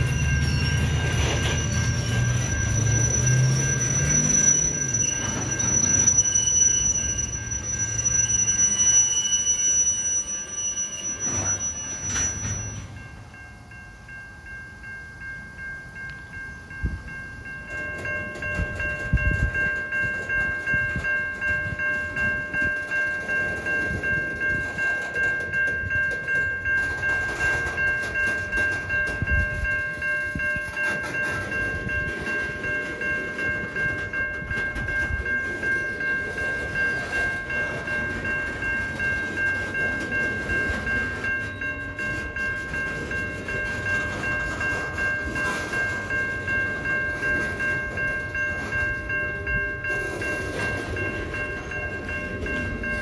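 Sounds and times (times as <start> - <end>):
crossing warning bell ringing: 0.0 - 53.0
train wheels rumbling over rails: 0.0 - 53.0.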